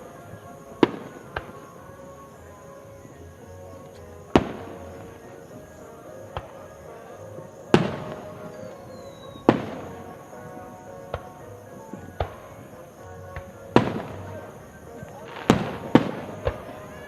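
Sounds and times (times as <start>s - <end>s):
fireworks booming: 0.0s - 17.0s
music with held notes: 0.0s - 17.0s.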